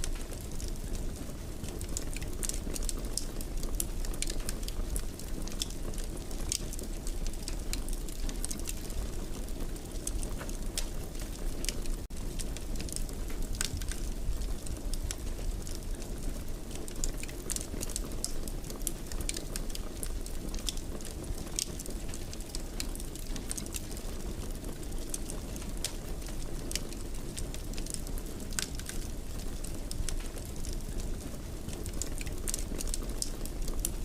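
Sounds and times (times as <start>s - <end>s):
fire crackling: 0.0s - 34.0s.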